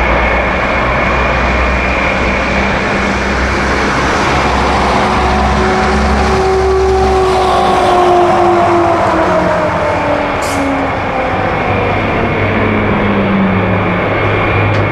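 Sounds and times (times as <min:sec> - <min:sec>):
jet engines running: 0:00.0 - 0:14.9
humming tone: 0:01.8 - 0:14.0.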